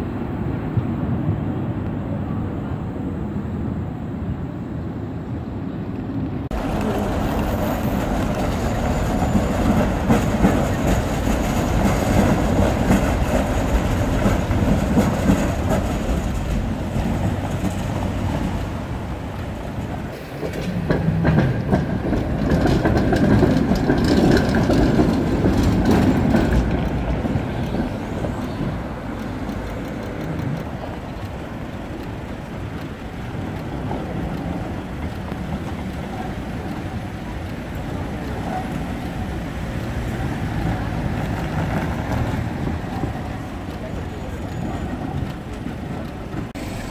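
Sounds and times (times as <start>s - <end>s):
tram wheels rumbling: 0.0s - 46.9s
passing car traffic: 2.6s - 46.9s
wheels clacking over rail joints: 6.0s - 46.9s.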